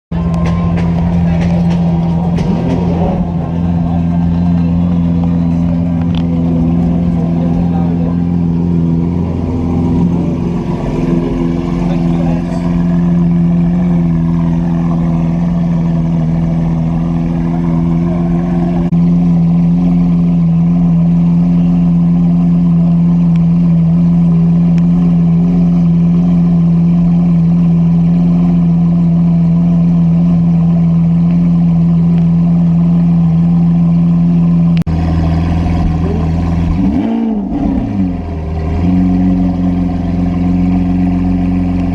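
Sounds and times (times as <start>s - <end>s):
car engine idling: 0.1s - 41.9s.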